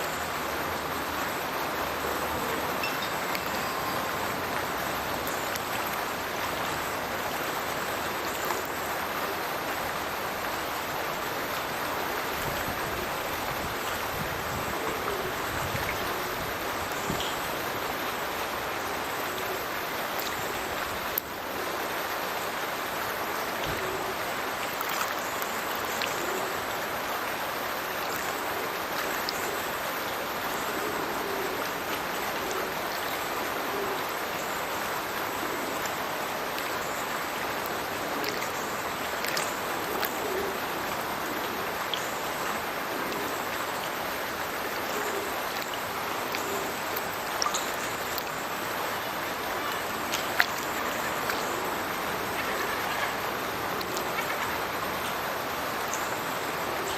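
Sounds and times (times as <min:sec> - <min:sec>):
water rushing from culvert: 0:00.0 - 0:56.9.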